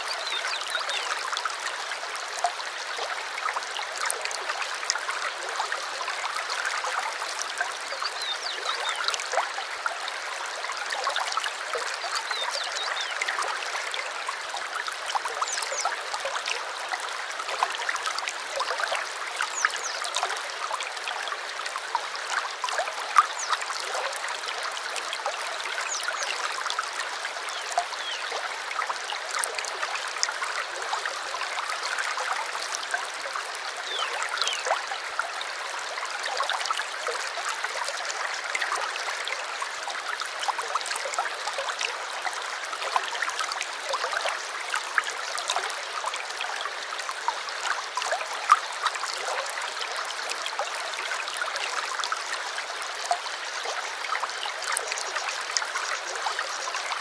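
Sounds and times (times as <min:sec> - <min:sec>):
small water splashes: 0:00.0 - 0:57.0
stream babbling over stones: 0:00.0 - 0:57.0.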